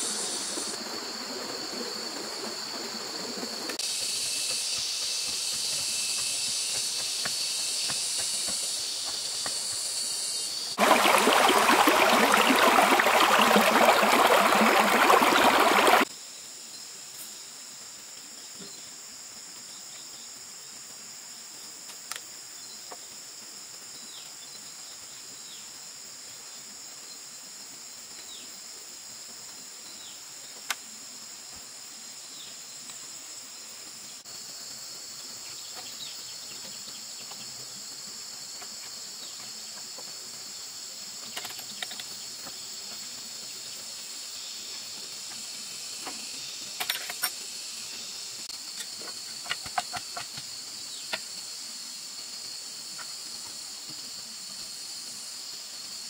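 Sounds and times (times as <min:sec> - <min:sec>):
insect chorus drone: 0:00.0 - 0:56.0.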